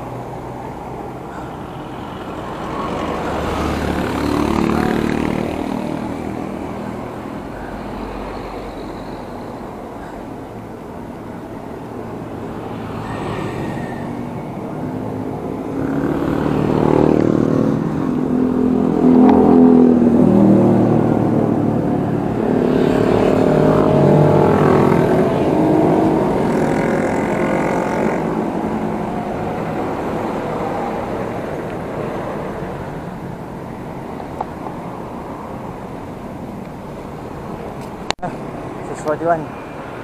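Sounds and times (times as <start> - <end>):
motorcycles passing: 0.0 - 40.0
road and wind noise: 0.0 - 40.0.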